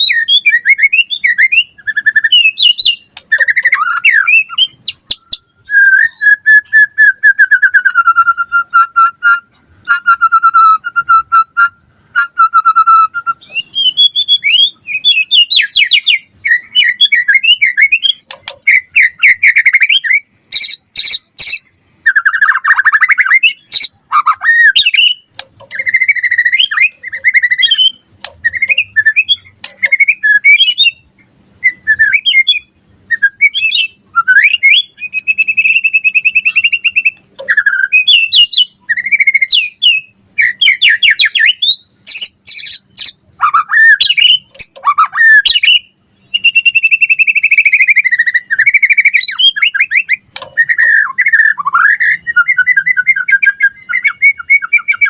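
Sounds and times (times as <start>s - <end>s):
songbird singing trills: 0.0s - 55.0s.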